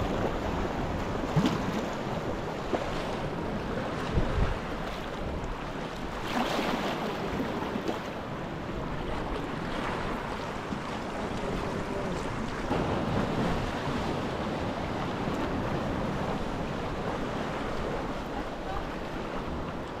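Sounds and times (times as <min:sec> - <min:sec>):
water sloshing around kayak: 0:00.0 - 0:20.0
waves washing against rocks: 0:00.0 - 0:20.0
wind on microphone: 0:00.0 - 0:20.0.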